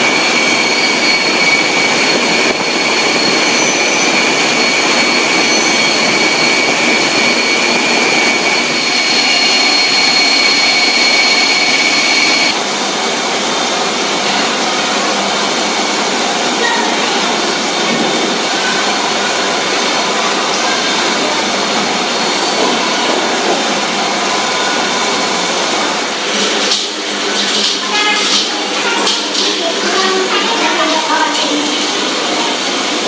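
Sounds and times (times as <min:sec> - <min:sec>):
high machine whine: 0:00.0 - 0:33.0
machinery noise: 0:00.0 - 0:33.0.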